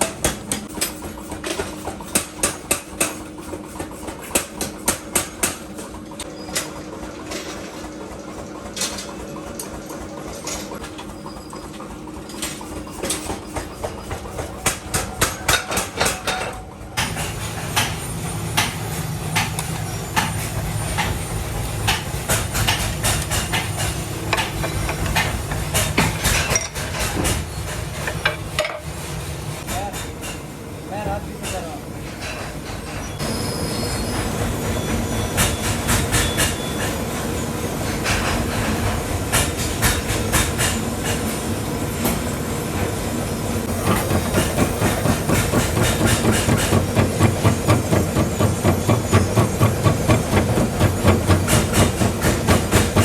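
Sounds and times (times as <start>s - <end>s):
workshop machinery humming: 0.0s - 53.0s.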